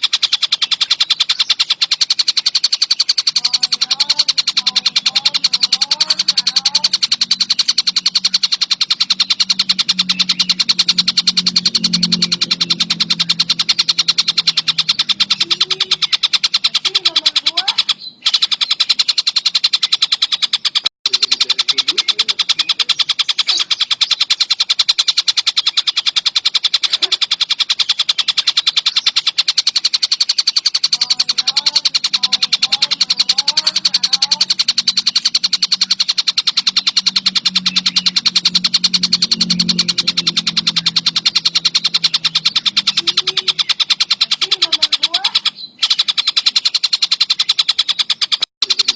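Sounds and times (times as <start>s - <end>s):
kingfisher chattering call: 0.0s - 48.9s.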